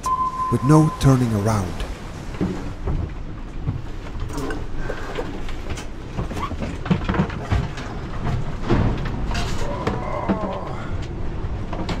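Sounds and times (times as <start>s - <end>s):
wind and sea rumble: 0.0s - 12.0s
boat knocks rattles and creaks: 0.6s - 12.0s.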